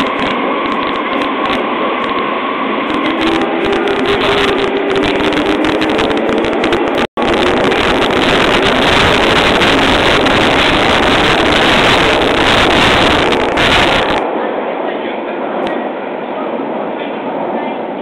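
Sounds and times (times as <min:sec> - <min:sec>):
subway train braking: 0:00.0 - 0:18.0.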